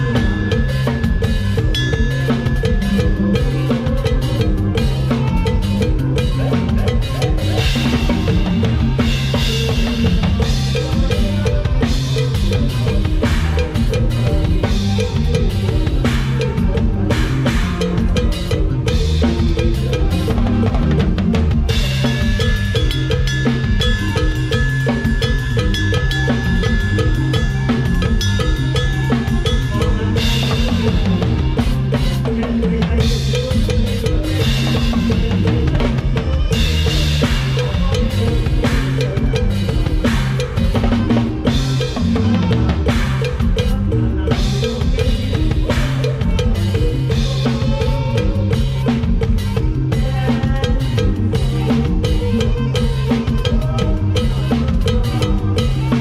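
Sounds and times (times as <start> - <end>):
drum kit groove: 0.0 - 56.0
pulsing bass line: 0.0 - 56.0.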